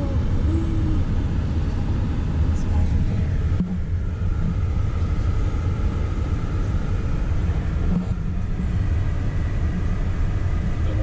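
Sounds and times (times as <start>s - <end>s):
car interior low rumble: 0.0s - 11.0s.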